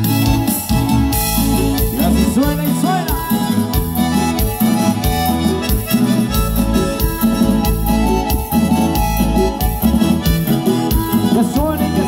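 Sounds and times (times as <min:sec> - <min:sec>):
harmonica lead: 0:00.0 - 0:12.0
live band playing: 0:00.0 - 0:12.0
steady drum beat: 0:00.0 - 0:12.0.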